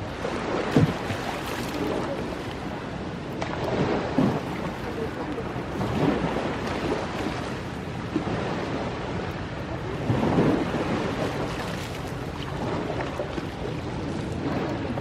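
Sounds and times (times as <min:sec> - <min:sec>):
ocean waves washing on shore: 0:00.0 - 0:15.0.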